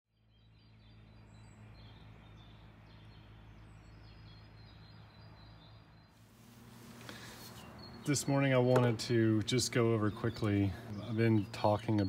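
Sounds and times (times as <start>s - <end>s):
faint birdsong chirps: 0.1s - 12.0s.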